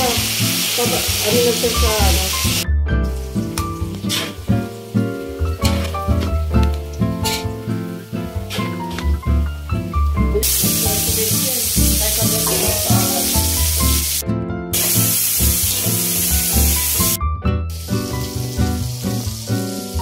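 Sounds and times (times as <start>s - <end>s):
peppers sizzling in a wok: 0.0s - 20.0s.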